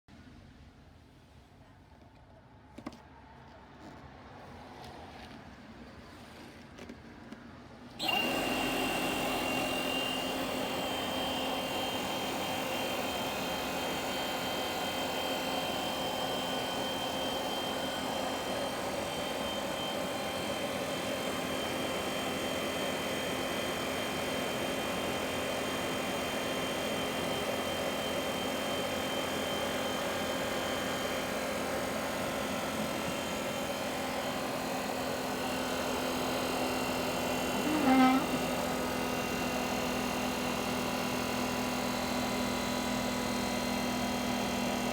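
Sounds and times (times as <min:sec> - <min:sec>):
air compressor running: 0:08.0 - 0:44.9.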